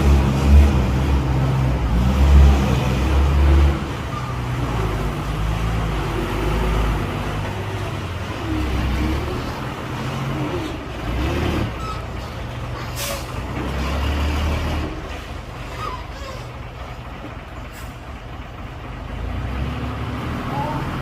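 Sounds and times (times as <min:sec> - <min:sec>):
dump truck diesel engine running: 0:00.0 - 0:21.0.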